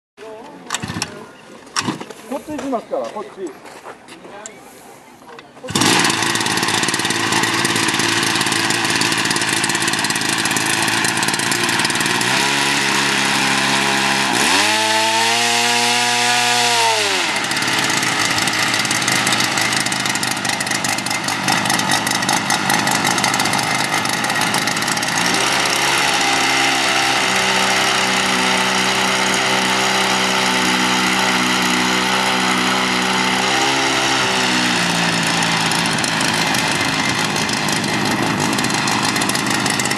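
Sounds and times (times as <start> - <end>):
small drone engine buzzing: 5.7 - 39.9.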